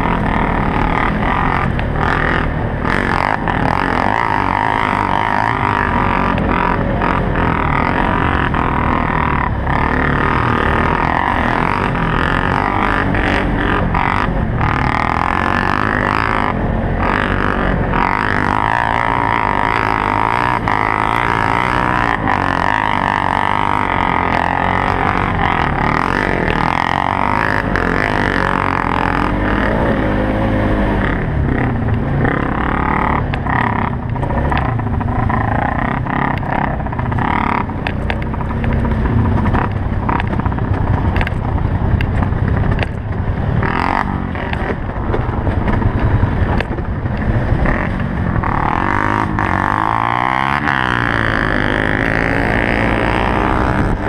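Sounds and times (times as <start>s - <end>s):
quad engine revving under load: 0.0s - 54.0s.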